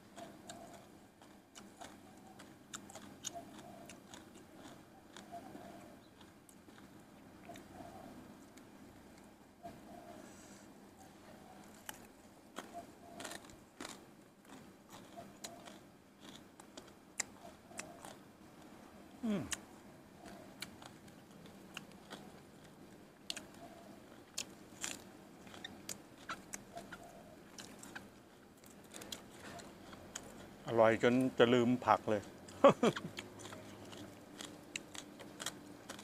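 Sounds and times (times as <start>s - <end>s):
person chewing: 0.1s - 9.3s, 11.6s - 30.6s, 32.0s - 36.0s.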